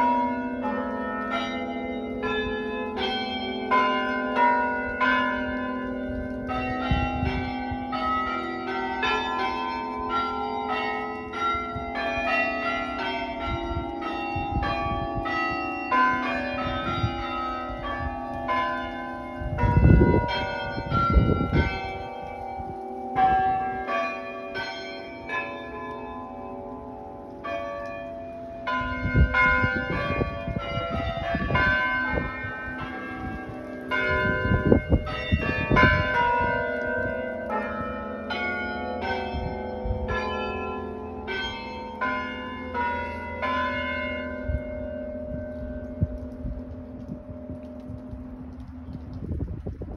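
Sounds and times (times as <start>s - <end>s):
tower bells playing a melody: 0.0s - 48.5s.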